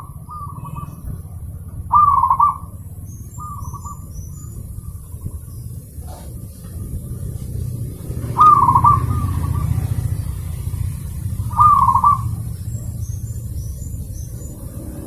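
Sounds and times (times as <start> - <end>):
dove cooing: 0.0 - 6.4, 8.0 - 13.8
steady low hum: 0.0 - 15.0.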